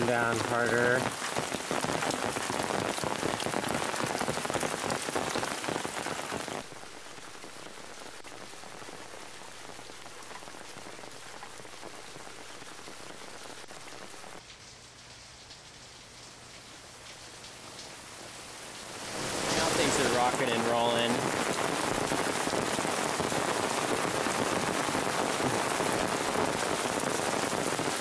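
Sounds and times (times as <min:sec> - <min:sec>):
heavy rain pattering: 0:00.0 - 0:28.0.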